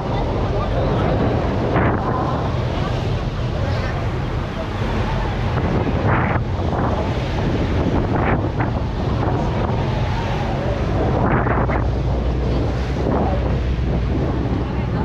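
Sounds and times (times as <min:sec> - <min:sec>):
boat engine running: 0:00.0 - 0:15.0
water churning: 0:00.0 - 0:15.0
wind buffeting microphone: 0:00.0 - 0:15.0.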